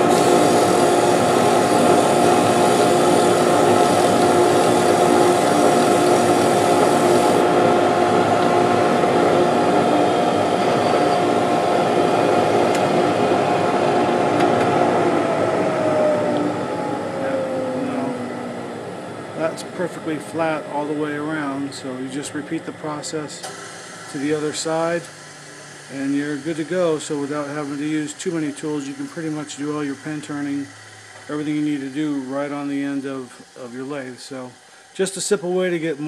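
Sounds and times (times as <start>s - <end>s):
lathe running with whine: 0.0s - 36.0s
motor winding down: 0.0s - 36.0s
vacuum running: 0.0s - 36.0s.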